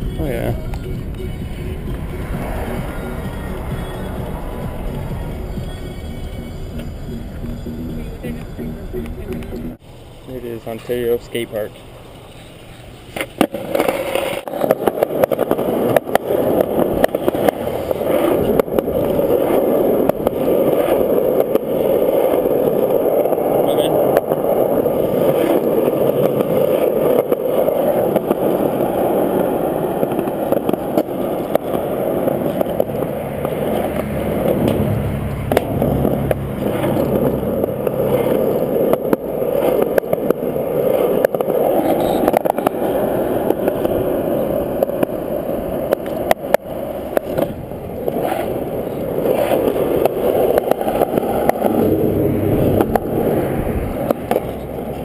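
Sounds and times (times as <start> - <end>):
skateboard wheels rolling on concrete: 0.0 - 55.0.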